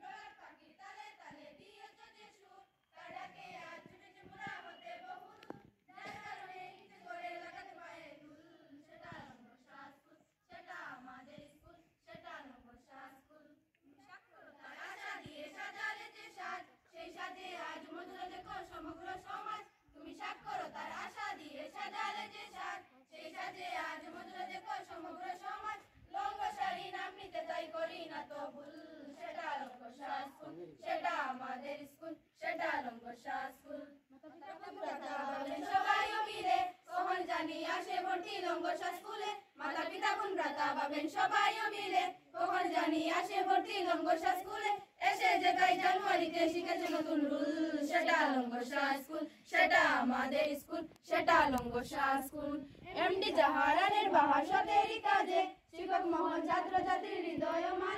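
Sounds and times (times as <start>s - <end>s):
children singing in unison: 0.0s - 13.5s, 14.4s - 57.9s.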